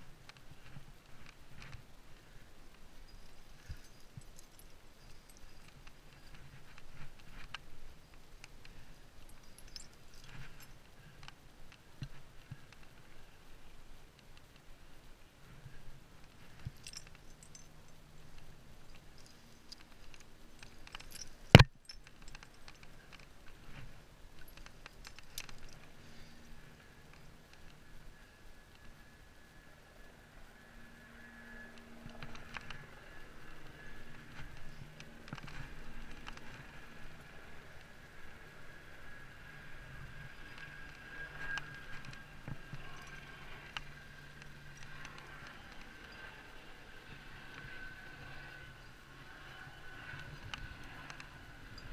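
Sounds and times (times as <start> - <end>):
faint steady hum: 0.0 - 51.9
climbing gear clinking: 0.2 - 13.7, 15.4 - 28.0, 32.0 - 51.9.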